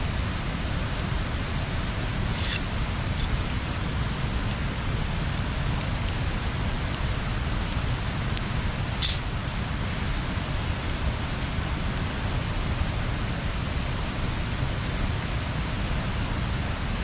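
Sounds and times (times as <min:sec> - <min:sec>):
bonfire crackling and popping: 0:00.0 - 0:16.8.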